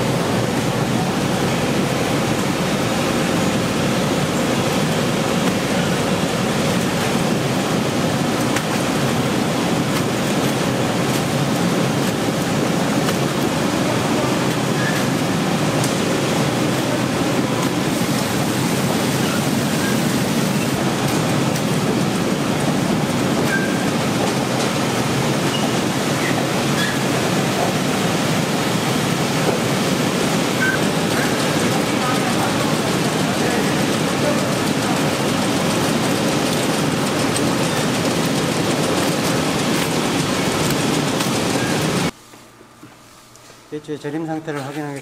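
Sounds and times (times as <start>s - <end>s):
water jets pouring: 0.0s - 42.1s
churning water in a tank: 0.0s - 42.2s
conveyor machine running: 0.0s - 42.2s.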